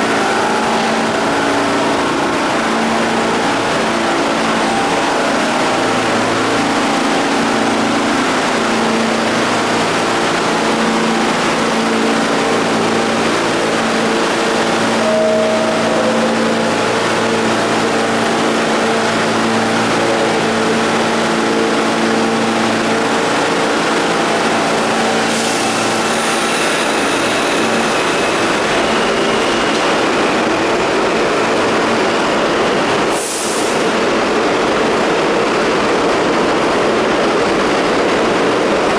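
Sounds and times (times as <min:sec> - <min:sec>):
subway train equipment humming: 0:00.0 - 0:38.9.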